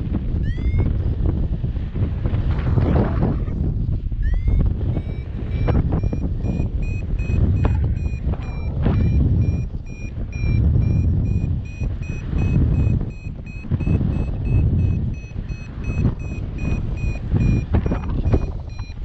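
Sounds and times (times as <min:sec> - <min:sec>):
wind gusting on microphone: 0:00.0 - 0:19.0
high-pitched variometer beeping: 0:00.4 - 0:01.0, 0:04.2 - 0:19.0.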